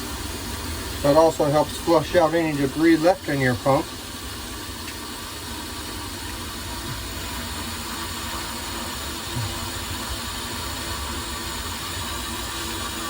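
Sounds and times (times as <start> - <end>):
hose water running into bucket: 0.0 - 13.0.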